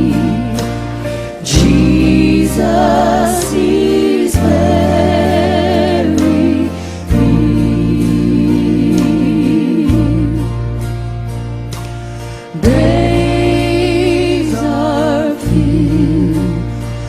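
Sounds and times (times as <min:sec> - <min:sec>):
choir singing with vibrato: 0:00.0 - 0:10.8, 0:12.4 - 0:16.8
low bass chords: 0:00.0 - 0:17.0.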